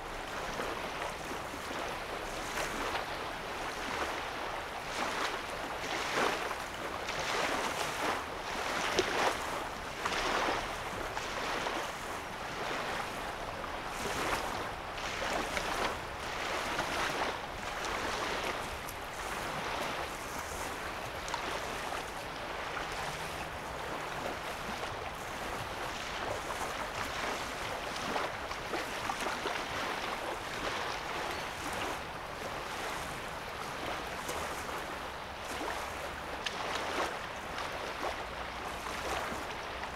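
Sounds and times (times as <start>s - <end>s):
small waves lapping at shoreline: 0.0s - 39.9s.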